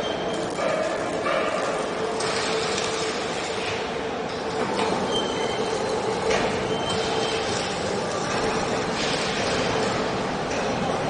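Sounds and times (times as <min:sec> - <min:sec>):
factory machinery running: 0:00.0 - 0:11.0.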